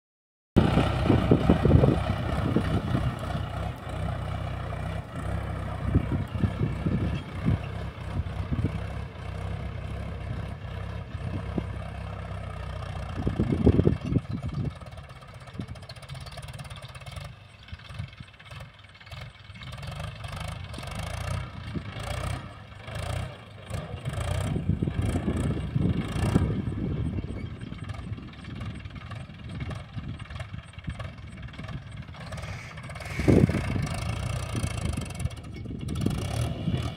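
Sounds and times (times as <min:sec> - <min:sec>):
tractor diesel engine running: 0:00.6 - 0:36.9.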